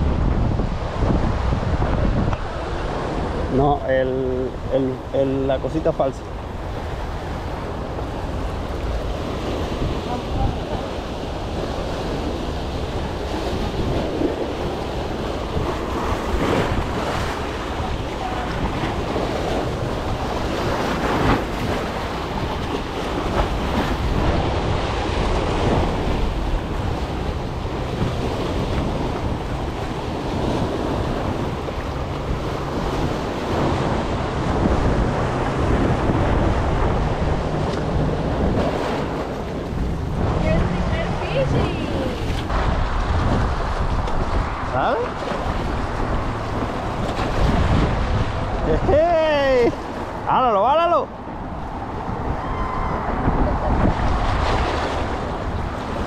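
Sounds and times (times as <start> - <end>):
surf splashing over rocks: 0.0 - 56.0
wind buffeting microphone: 0.0 - 56.0.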